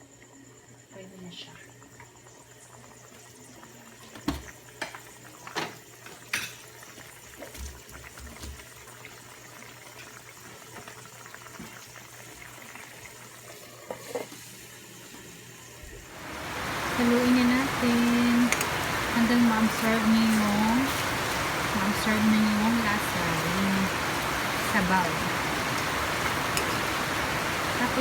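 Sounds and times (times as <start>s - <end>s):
sauce bubbling in a pan: 1.6s - 28.0s.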